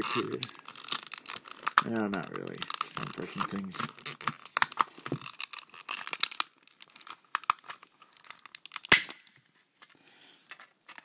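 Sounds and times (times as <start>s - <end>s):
plastic crackling and creaking clicks: 0.0s - 8.9s.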